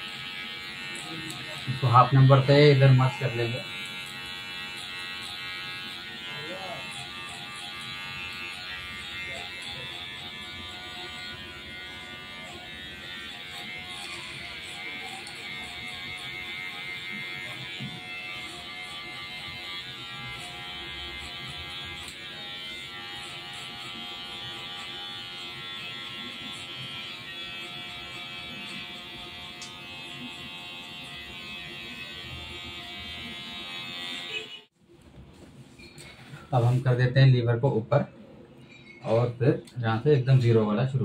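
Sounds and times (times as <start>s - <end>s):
electric hair clipper buzzing: 0.0s - 34.7s.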